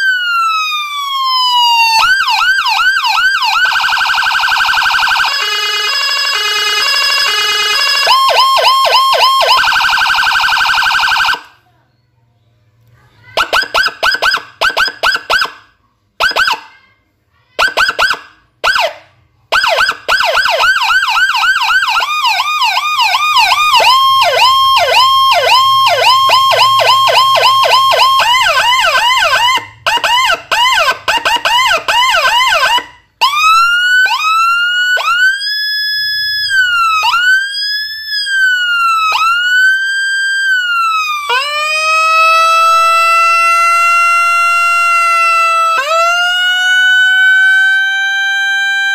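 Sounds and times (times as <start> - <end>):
electronic siren: 0.0 - 11.6, 17.6 - 48.9.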